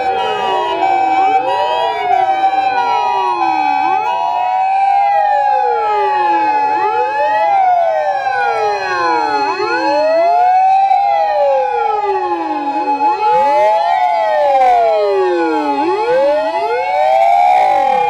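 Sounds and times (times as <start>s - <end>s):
emergency vehicle sirens wailing: 0.0s - 18.0s
steady high siren tone: 0.0s - 18.0s.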